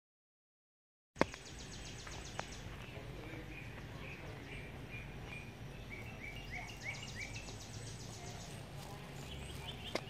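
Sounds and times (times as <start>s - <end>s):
bird chirping: 1.2s - 10.0s
steady low rumble: 1.2s - 10.0s.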